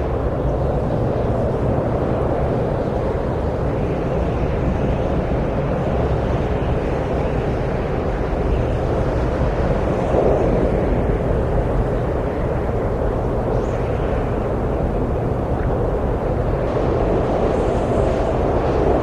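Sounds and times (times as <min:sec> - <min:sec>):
steady wind rushing: 0:00.0 - 0:19.0.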